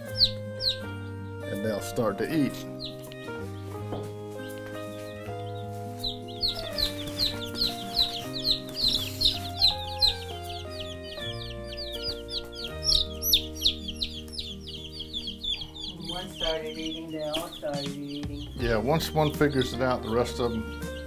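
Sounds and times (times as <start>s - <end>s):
background music with held notes: 0.0s - 21.0s
chicks peeping: 0.0s - 21.0s.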